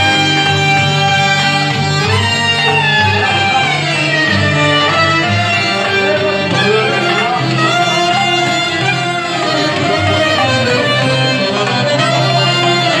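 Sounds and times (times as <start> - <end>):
accordion chords: 0.0 - 13.0
sustained bass notes: 0.0 - 13.0
violin melody: 0.0 - 13.0.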